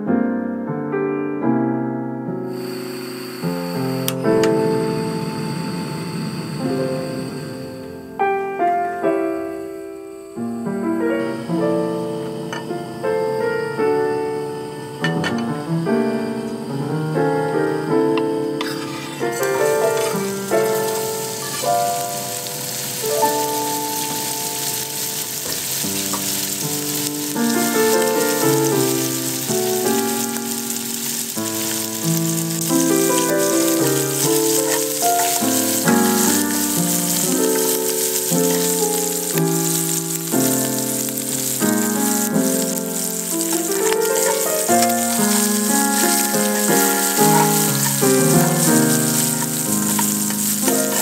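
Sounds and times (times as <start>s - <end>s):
gentle piano music: 0.0s - 51.0s
meat sizzling in a pan: 2.5s - 8.3s, 10.4s - 51.0s.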